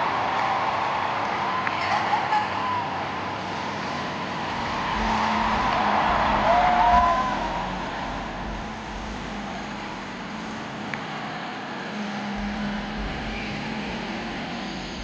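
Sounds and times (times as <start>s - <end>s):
arena crowd cheering and screaming: 0.0s - 15.0s.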